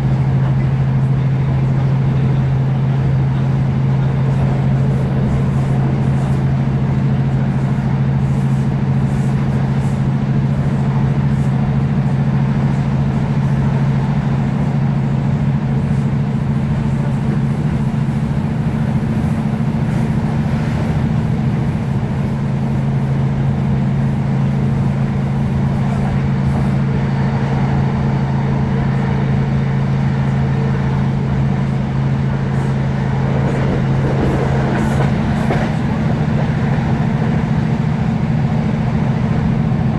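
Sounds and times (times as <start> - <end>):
train diesel engine drone: 0.0 - 39.9
train running noise: 0.0 - 39.9.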